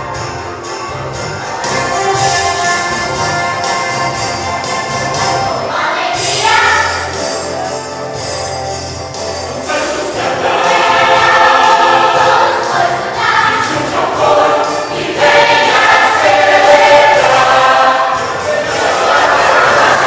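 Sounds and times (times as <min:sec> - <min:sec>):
instrumental accompaniment: 0:00.0 - 0:20.0
church choir singing: 0:01.4 - 0:07.8, 0:09.6 - 0:20.0.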